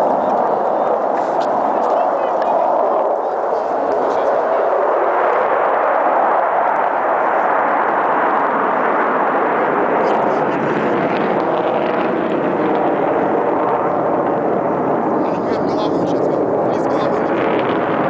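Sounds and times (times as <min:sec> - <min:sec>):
jet fighter engines overhead: 0:00.0 - 0:18.0.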